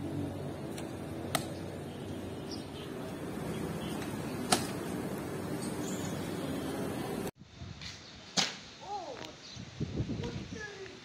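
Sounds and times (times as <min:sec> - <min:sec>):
steady background noise: 0:00.0 - 0:09.4.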